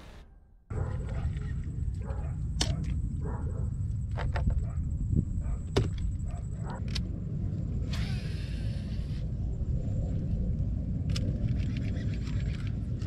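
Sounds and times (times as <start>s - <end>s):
wind rumbling on microphone: 0.7s - 13.0s.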